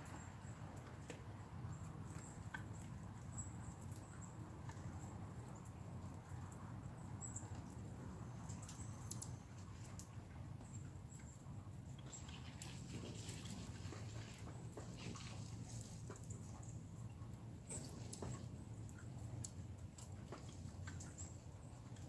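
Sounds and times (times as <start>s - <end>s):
small clicks and ticks: 0.0s - 22.0s.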